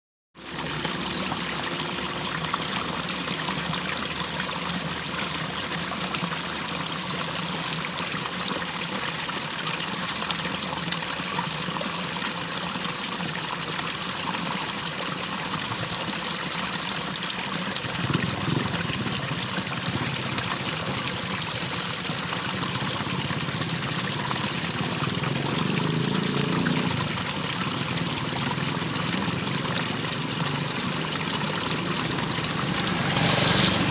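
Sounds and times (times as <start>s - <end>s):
water running in a ditch: 0.4s - 33.9s.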